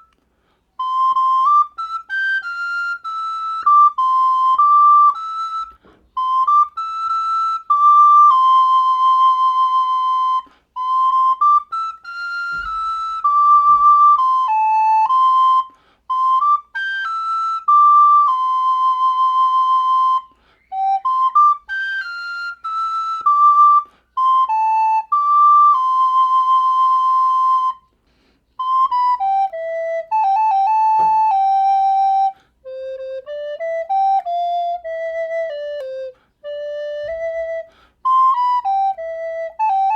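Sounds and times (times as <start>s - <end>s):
soprano recorder melody: 0.0s - 39.9s.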